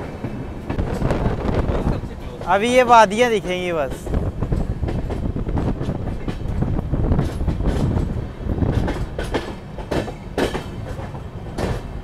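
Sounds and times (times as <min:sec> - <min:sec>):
sharp rail clacks: 0:00.0 - 0:12.0
train wheels rumbling on rail: 0:00.0 - 0:12.0.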